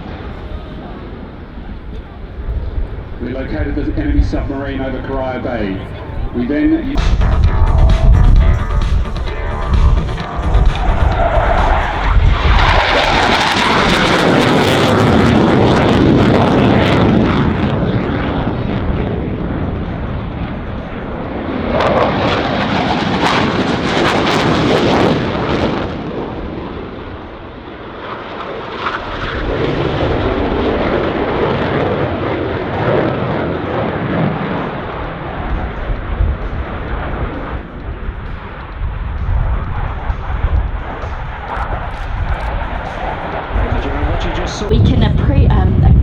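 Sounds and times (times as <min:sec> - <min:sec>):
aircraft flying low: 0:00.0 - 0:46.0.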